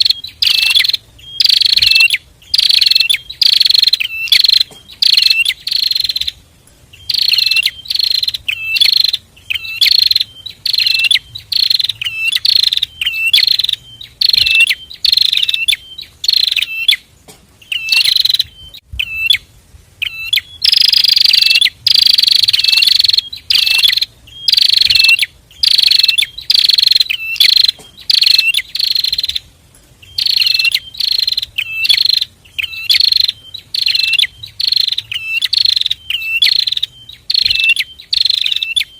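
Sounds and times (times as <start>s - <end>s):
birds singing high sharp notes: 0.0s - 38.9s.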